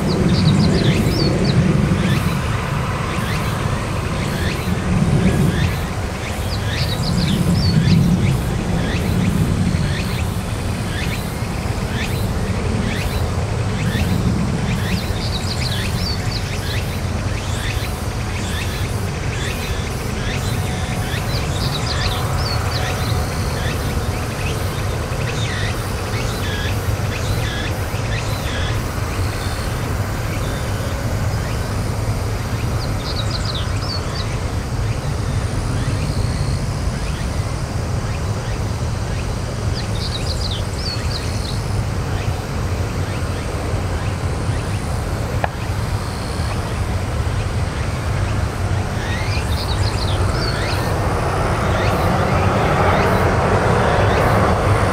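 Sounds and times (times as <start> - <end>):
jet airliner low rumble: 0.0 - 54.9
songbirds chirping: 0.0 - 54.9.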